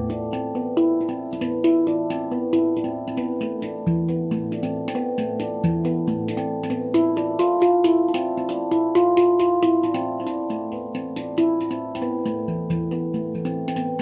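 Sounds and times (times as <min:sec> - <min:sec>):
handpan played by hand: 0:00.0 - 0:14.0.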